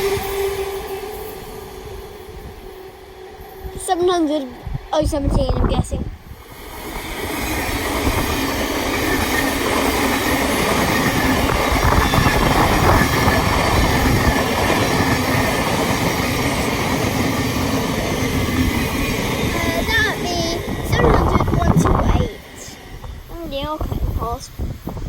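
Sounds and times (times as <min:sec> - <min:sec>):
electric train passing: 0:00.0 - 0:25.0.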